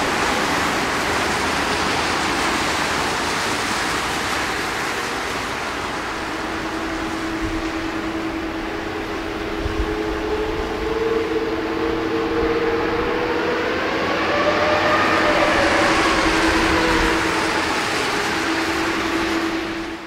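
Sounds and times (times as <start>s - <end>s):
jet engines whining: 0.0s - 20.0s
steady hum: 0.0s - 20.0s.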